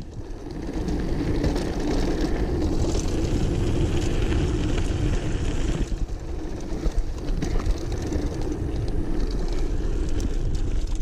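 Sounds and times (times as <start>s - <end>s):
bike tyres rumbling on dirt: 0.0s - 11.0s
small clicks from gravel: 0.0s - 11.0s
wind on microphone: 0.0s - 11.0s.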